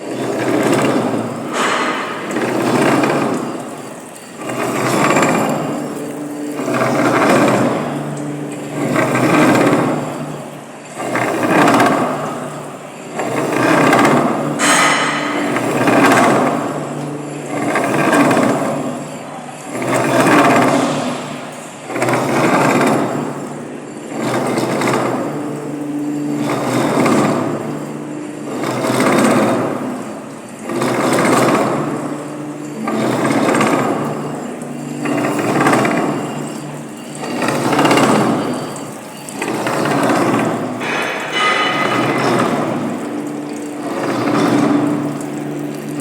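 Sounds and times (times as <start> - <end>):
milling cutter cutting metal: 0.0 - 10.4, 11.0 - 23.5, 24.1 - 46.0
steady machine hum: 0.0 - 46.0.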